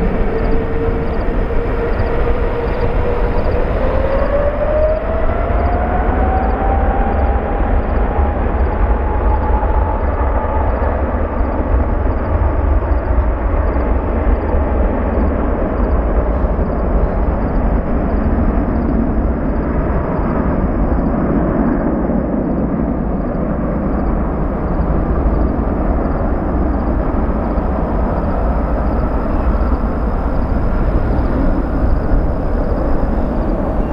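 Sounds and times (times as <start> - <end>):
jet engines roaring on takeoff: 0.0 - 33.9.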